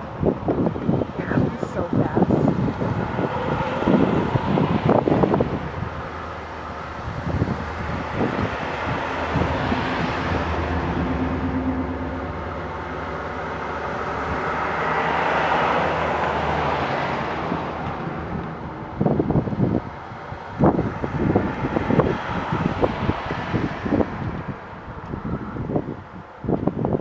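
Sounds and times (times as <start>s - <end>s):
car passing by: 0.0s - 27.0s
vehicle engine humming: 0.0s - 27.0s
wind on microphone: 0.0s - 27.0s.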